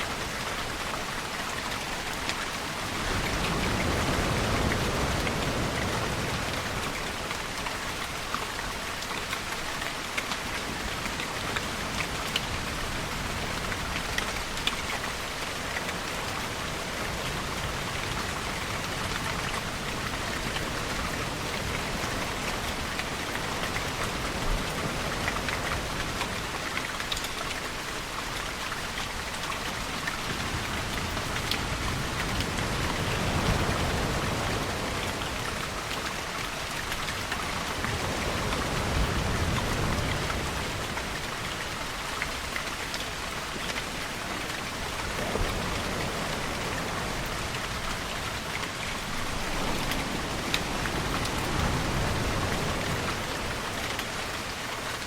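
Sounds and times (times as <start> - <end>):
rain falling on surfaces: 0.0 - 55.0
raindrop ticks: 0.1 - 55.0.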